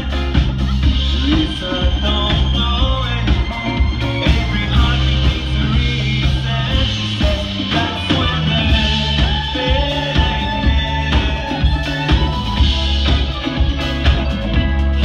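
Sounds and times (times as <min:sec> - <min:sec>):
drum kit: 0:00.0 - 0:15.0
electric guitar: 0:00.0 - 0:15.0
keyboard: 0:00.0 - 0:15.0
man singing: 0:00.0 - 0:15.0.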